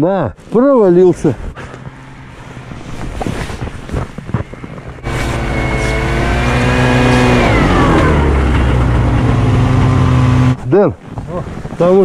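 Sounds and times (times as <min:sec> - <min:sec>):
snowmobile engine revving: 0:01.0 - 0:10.6.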